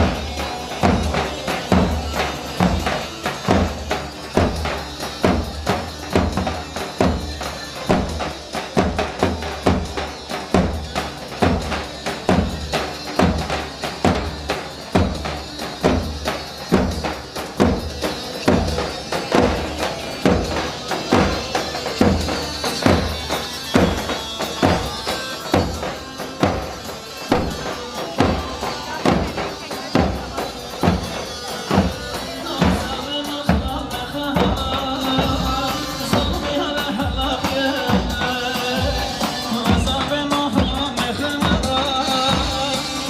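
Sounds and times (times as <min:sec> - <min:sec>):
driving drum beat: 0:00.0 - 0:43.0.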